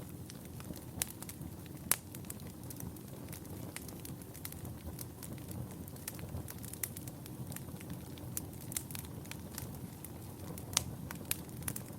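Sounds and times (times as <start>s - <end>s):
fire crackling and popping: 0.0s - 11.9s
fire flames rumbling: 0.0s - 11.9s.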